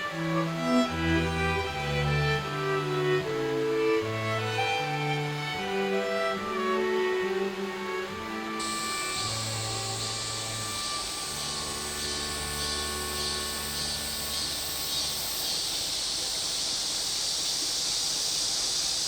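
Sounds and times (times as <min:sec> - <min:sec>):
string music: 0:00.0 - 0:15.9
stream water running: 0:00.0 - 0:19.0.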